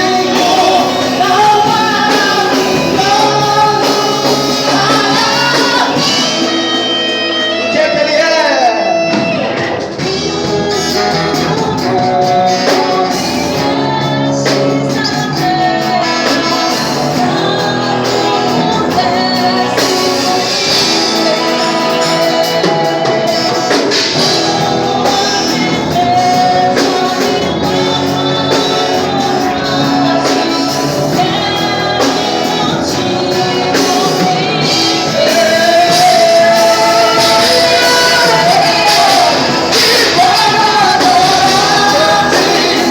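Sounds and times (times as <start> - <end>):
band accompaniment: 0.0 - 42.9
voices singing: 0.0 - 42.9.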